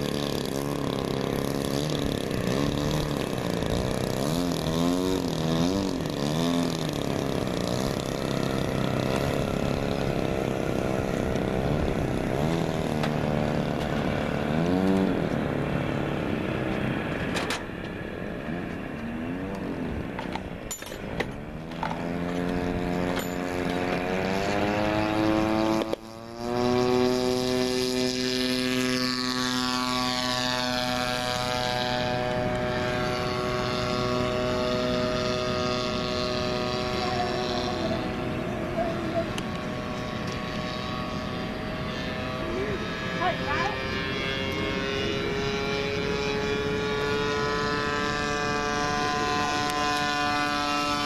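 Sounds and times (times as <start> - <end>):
model airplane engine: 0.0 - 51.0.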